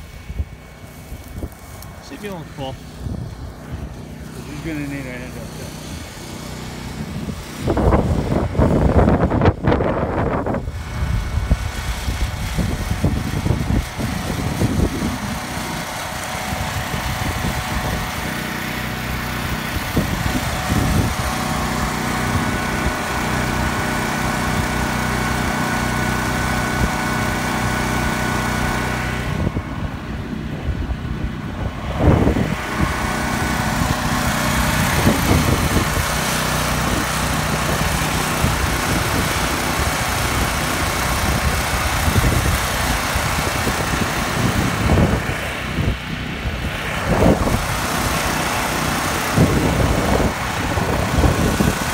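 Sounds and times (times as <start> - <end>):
small gasoline engine running: 0.0 - 51.9.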